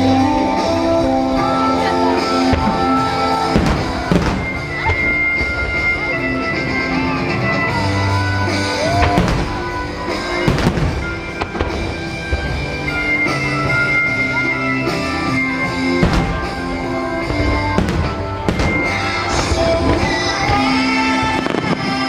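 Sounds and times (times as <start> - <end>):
fireworks bursting: 0.0 - 22.0
music with sustained notes: 0.0 - 22.0.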